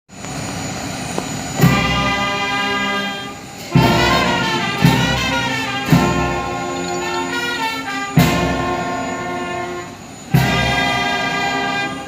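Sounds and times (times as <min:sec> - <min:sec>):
heavy drum or cymbal strikes: 0:01.3 - 0:12.0
brass band sustained chords: 0:01.5 - 0:12.0.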